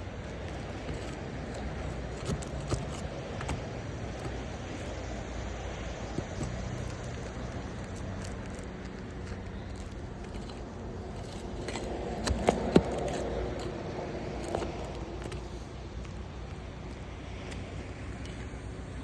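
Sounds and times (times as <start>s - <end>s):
roof shingle cracking: 0.0s - 18.4s.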